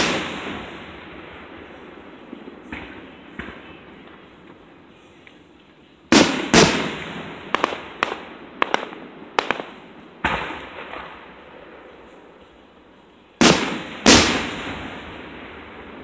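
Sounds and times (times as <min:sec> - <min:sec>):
firework booms: 0:00.0 - 0:04.6, 0:06.1 - 0:11.8, 0:13.4 - 0:16.0
firework crackles: 0:00.0 - 0:16.0.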